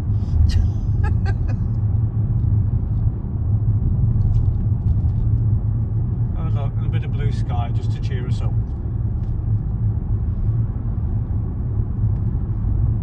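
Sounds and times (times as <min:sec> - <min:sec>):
road and engine rumble in car cabin: 0:00.0 - 0:13.0.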